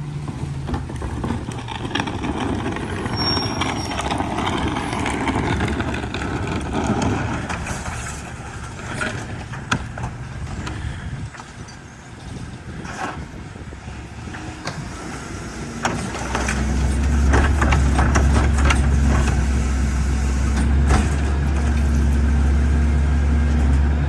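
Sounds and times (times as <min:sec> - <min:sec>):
garbage truck rumble and clatter: 0:00.0 - 0:24.0.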